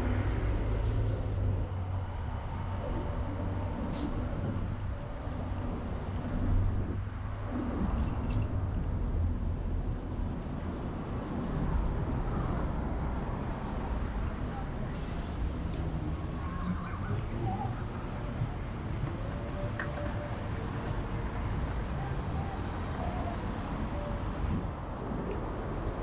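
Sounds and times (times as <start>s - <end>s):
low rumble of vehicle engines: 0.0s - 26.0s.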